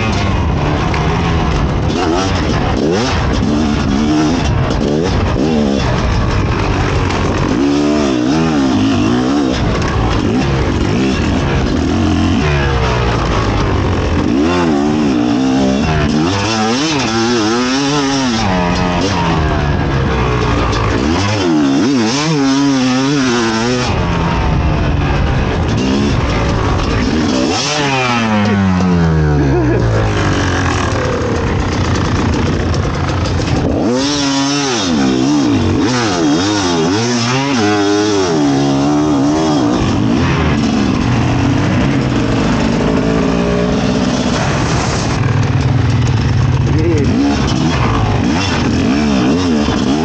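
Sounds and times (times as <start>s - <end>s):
two-stroke motorcycle engine revving: 0.0s - 50.0s.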